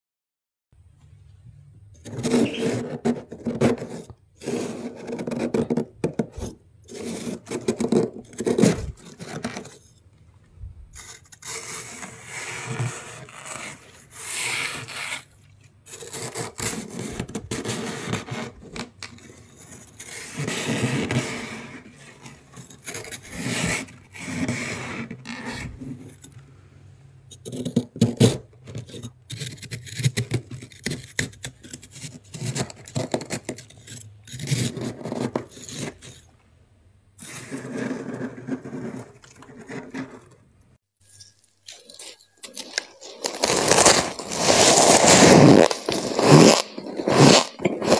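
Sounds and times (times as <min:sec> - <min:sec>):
stick scraping freezer frost: 0:02.0 - 0:10.0, 0:11.0 - 0:26.4, 0:27.3 - 0:36.3, 0:37.2 - 0:40.4, 0:41.0 - 0:47.9.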